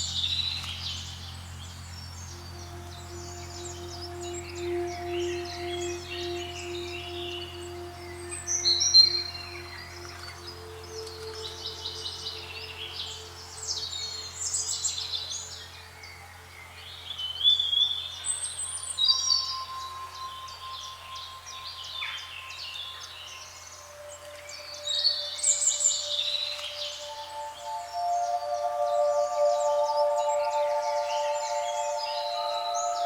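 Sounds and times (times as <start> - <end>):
soft background drone: 0.0 - 33.0
songbirds chirping and trilling: 0.0 - 33.0.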